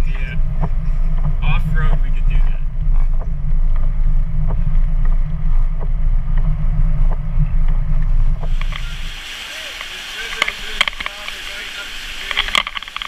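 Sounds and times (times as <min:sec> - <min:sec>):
vehicle rumble on dirt road: 0:00.0 - 0:13.0.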